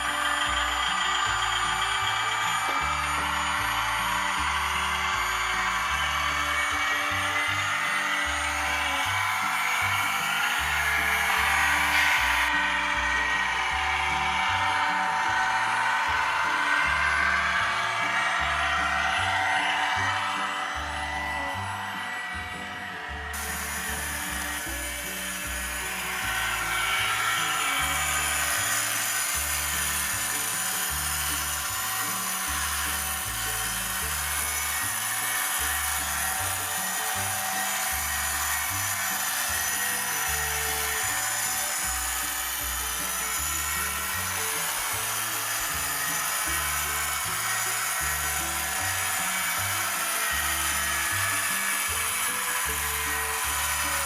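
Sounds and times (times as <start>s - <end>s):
model train motor grinding whir: 0.0s - 54.0s.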